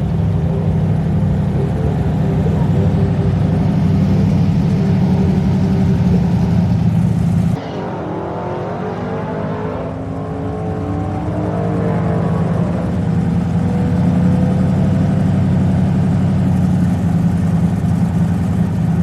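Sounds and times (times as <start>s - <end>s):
heavy engine idling: 0.0s - 7.6s, 8.2s - 19.0s
quieter engine note: 0.0s - 19.0s.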